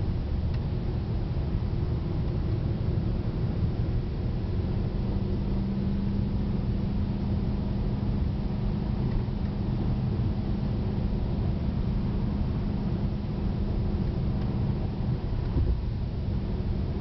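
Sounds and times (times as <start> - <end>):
car engine droning: 0.0 - 17.0
road and tyre noise: 0.0 - 17.0.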